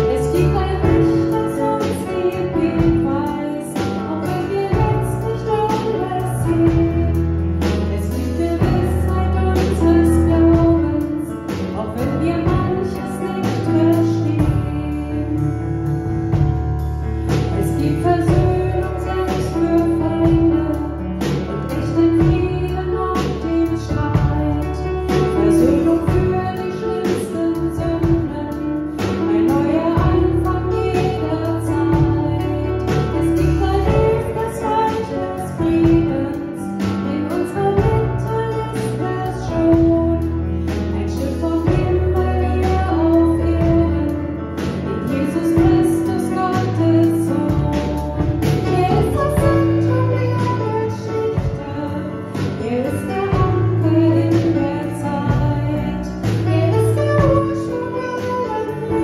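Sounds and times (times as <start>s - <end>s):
woman singing into microphone: 0.0s - 15.8s, 17.3s - 59.0s
digital piano: 0.0s - 59.0s
drum kit: 0.0s - 59.0s.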